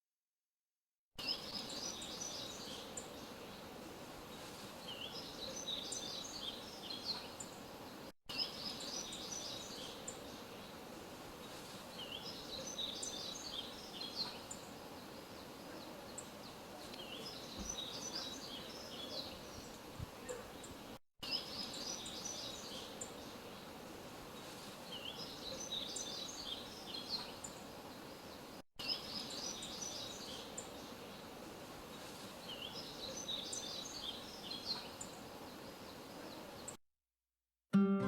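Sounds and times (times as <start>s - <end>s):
background hiss: 1.2s - 36.8s
small birds chirping: 1.2s - 36.8s.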